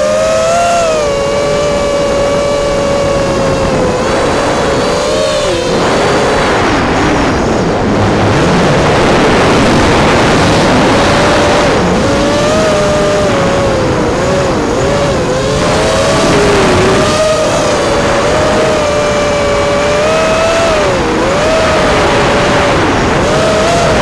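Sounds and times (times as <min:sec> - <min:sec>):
quadcopter motors whining: 0:00.0 - 0:24.0
rush of prop wash and wind: 0:00.0 - 0:24.0.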